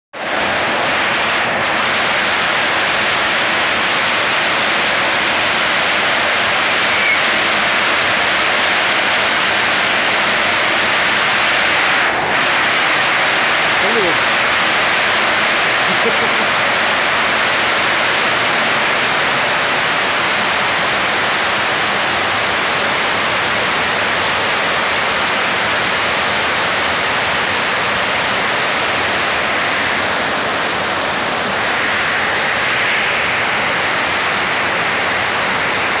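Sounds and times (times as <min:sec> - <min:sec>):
heavy rain: 0:00.1 - 0:36.0
runoff pouring off roof: 0:00.2 - 0:36.0.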